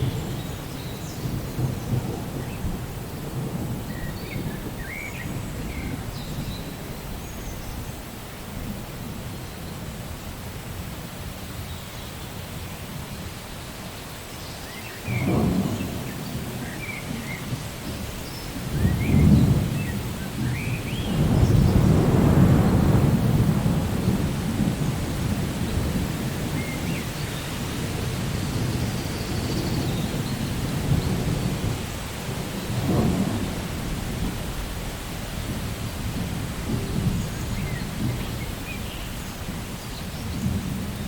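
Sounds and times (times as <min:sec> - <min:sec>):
rolling thunder: 0:00.0 - 0:10.0, 0:15.0 - 0:41.0
steady rain: 0:00.0 - 0:41.0.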